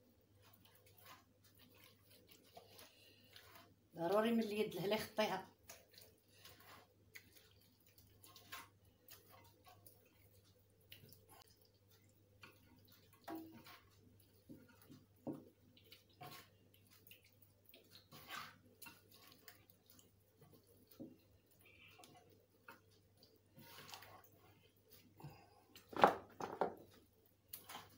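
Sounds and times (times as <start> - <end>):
wet squelches of hands rubbing chicken: 0.0 - 26.0, 26.8 - 27.9.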